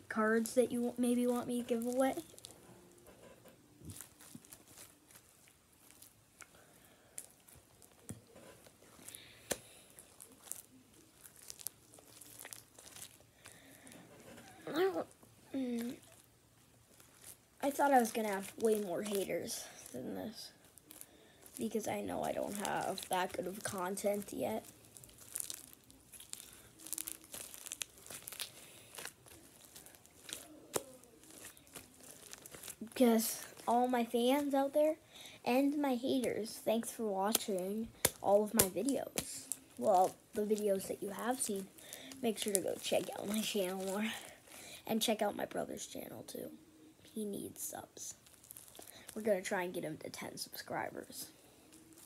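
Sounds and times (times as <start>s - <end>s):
slime beads crackling: 0.1s - 2.7s, 3.8s - 46.0s, 47.4s - 52.0s.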